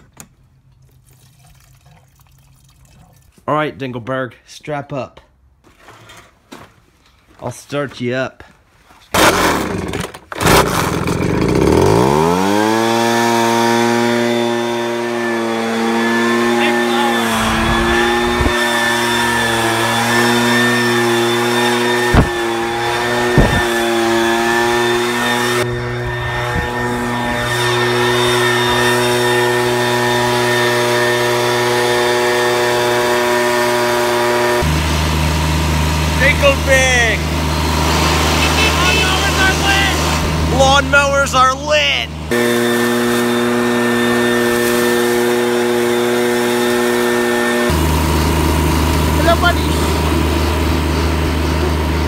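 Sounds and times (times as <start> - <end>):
leaf blower engine starting: 9.1 - 52.0.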